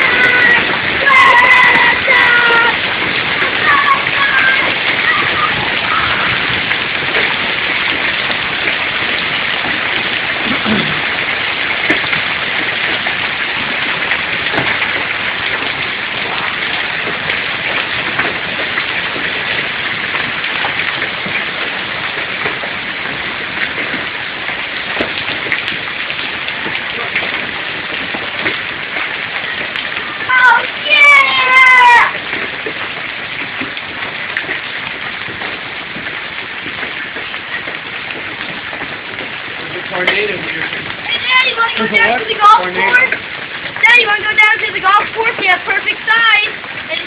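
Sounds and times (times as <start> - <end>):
hailstones pelting down: 0.0 - 47.0
rain: 0.0 - 47.0
sharp hail clicks: 0.0 - 47.0.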